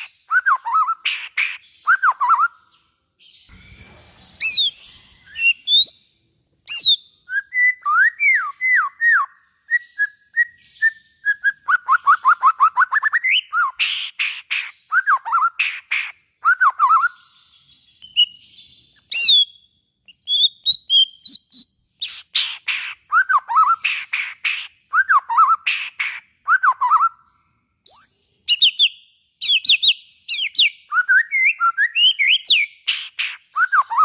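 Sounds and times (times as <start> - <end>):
bird singing varied song: 0.0 - 34.0.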